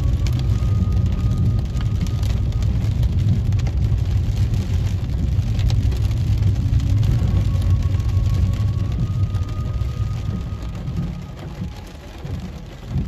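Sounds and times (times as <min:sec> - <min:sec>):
car tyres rumbling on wet road: 0:00.0 - 0:13.0
raindrops tapping on car roof: 0:00.0 - 0:13.0.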